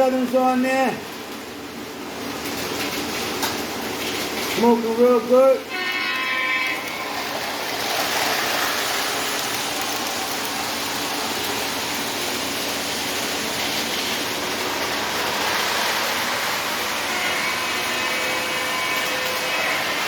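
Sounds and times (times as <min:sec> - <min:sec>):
model trains running on track: 0:00.0 - 0:20.0.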